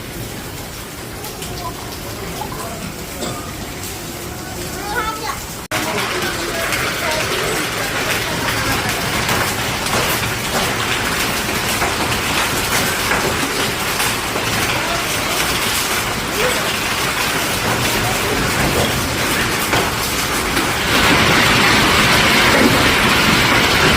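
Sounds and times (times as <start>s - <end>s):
hailstones pelting down: 0.0s - 23.9s.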